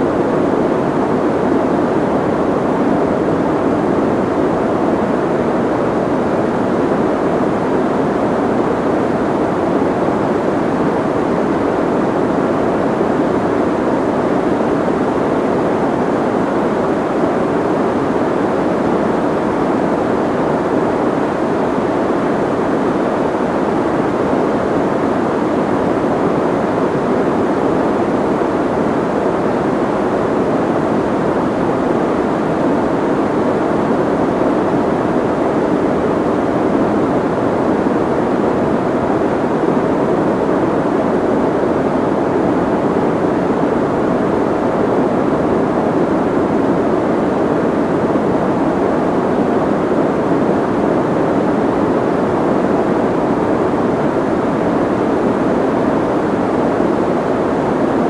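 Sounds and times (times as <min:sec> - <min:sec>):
soft white noise hiss: 0:00.0 - 0:58.0.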